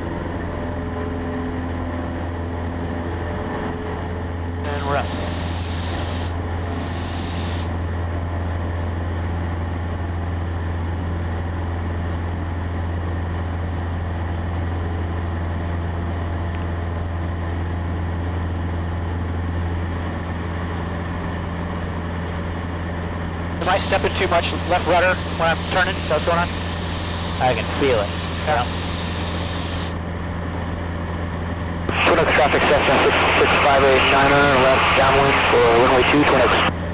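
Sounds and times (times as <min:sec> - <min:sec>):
airplane engine and propeller drone: 0:00.0 - 0:36.9.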